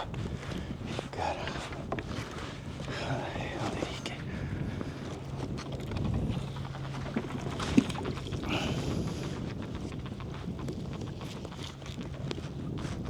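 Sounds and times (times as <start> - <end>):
wind blowing over microphone: 0.0 - 13.0.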